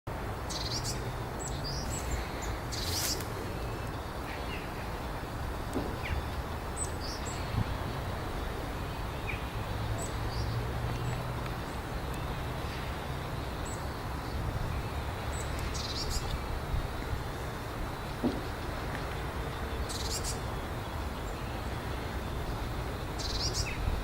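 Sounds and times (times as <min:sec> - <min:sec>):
small birds chirping: 0:00.3 - 0:24.0.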